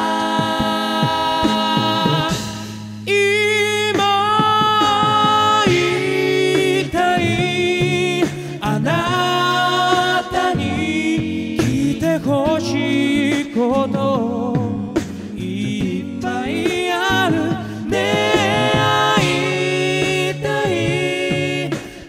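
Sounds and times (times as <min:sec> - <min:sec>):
male a cappella group singing: 0:00.0 - 0:22.0
vocal percussion hits: 0:00.0 - 0:22.0.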